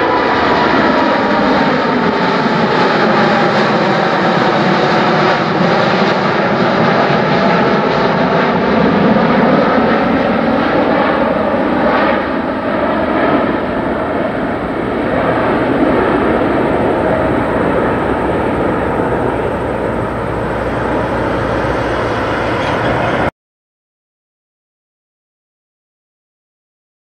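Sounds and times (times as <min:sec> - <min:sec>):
jet aircraft climbing: 0:00.0 - 0:23.3.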